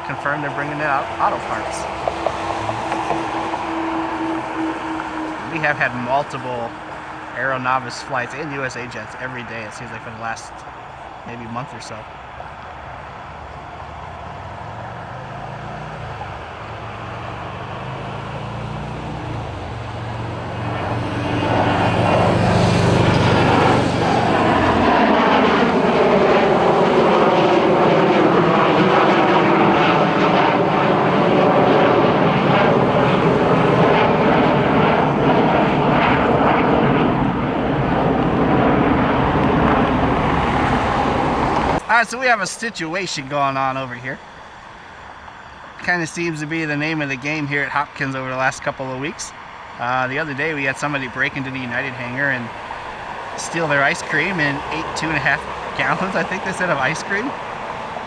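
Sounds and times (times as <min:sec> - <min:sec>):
falling jet whine: 0:00.0 - 0:58.0
jet airliner engines: 0:00.0 - 0:58.0.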